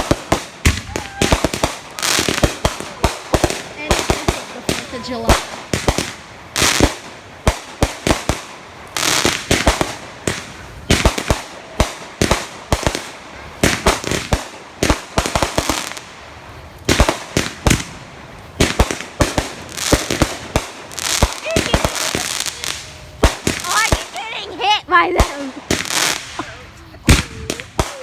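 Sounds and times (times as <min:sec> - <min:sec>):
fireworks bangs and pops: 0:00.0 - 0:28.0
fireworks crackling: 0:00.0 - 0:28.0.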